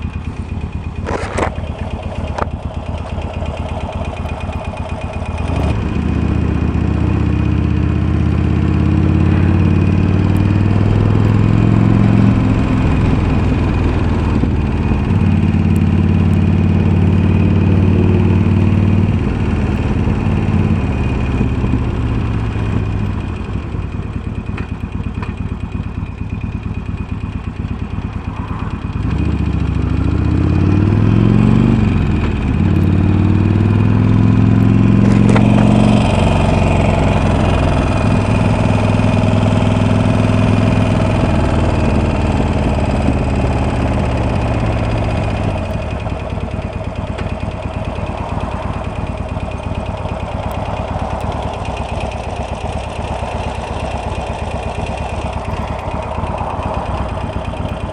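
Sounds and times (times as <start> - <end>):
motorcycle engine revving and idling: 0.0 - 57.9.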